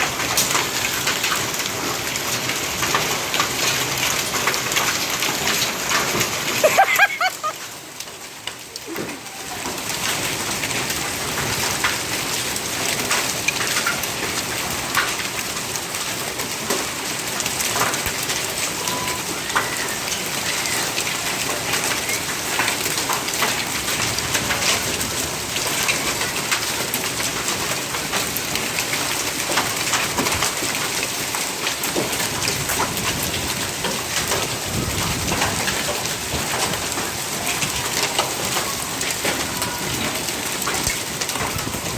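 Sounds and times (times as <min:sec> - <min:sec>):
hail and rain pelting: 0:00.0 - 0:41.9
hailstones ticking on surfaces: 0:00.0 - 0:41.9.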